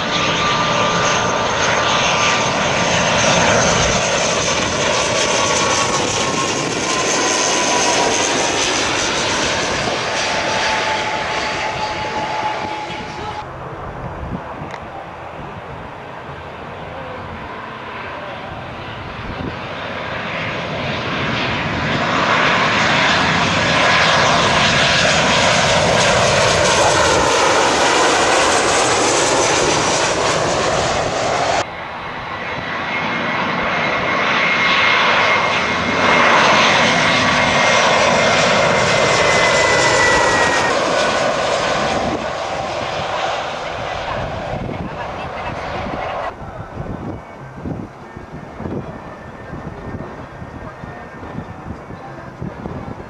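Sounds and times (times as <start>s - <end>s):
high jet engine whine: 0.0s - 53.0s
jet airliner passing overhead: 0.0s - 53.0s.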